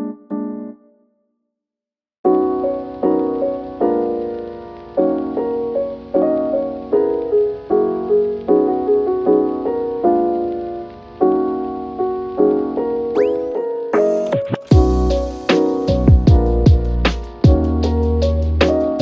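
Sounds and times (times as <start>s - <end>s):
gentle piano music: 0.0s - 1.0s, 2.3s - 19.0s.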